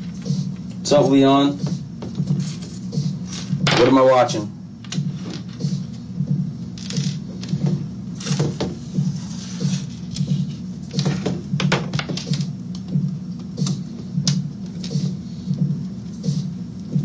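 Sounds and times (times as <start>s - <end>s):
throbbing background music: 0.0s - 17.0s.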